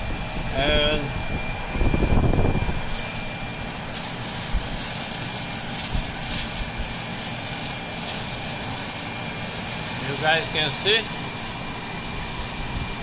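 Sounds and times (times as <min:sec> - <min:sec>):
exhaust blower running with whine: 0:00.0 - 0:13.0
plastic crinkling: 0:02.2 - 0:13.0.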